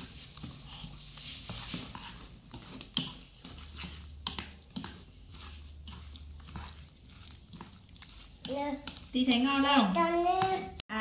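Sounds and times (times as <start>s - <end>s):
wet mixture squelching: 0.0s - 11.0s.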